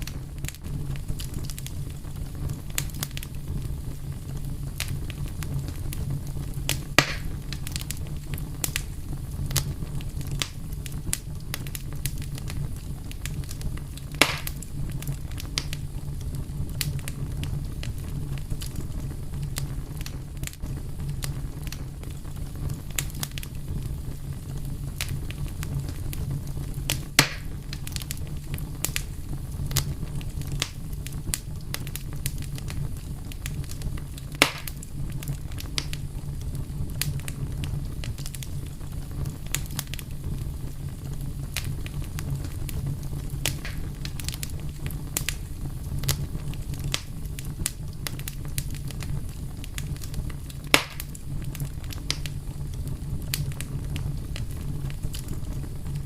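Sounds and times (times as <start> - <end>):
fire crackling: 0.0 - 56.0
loud fire pops: 0.0 - 56.0
low fire rumble: 0.0 - 56.0.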